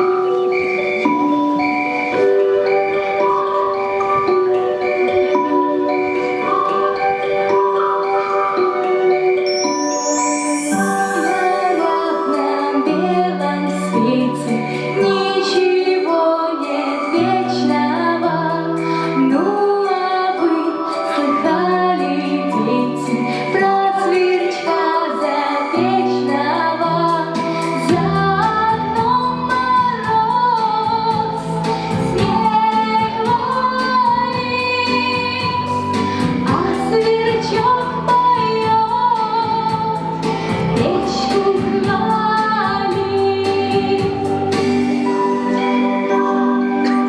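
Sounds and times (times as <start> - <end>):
backing music with bass and beat: 0.0 - 16.0, 16.6 - 47.0
woman singing: 0.0 - 47.0.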